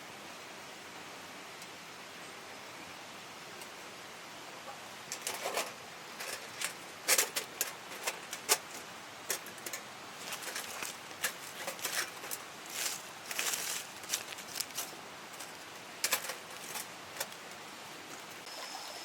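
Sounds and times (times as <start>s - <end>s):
mountain stream rushing: 0.0s - 18.6s.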